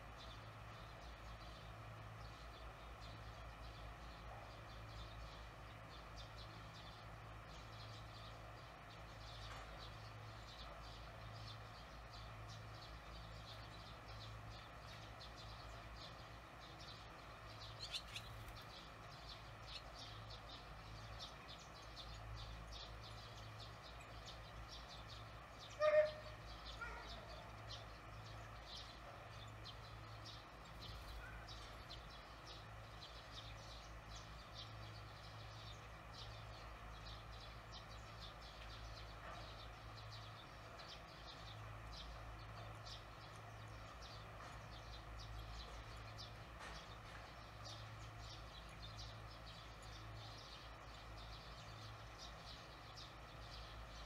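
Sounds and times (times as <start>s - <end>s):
faint bird chirp: 0.0s - 54.0s.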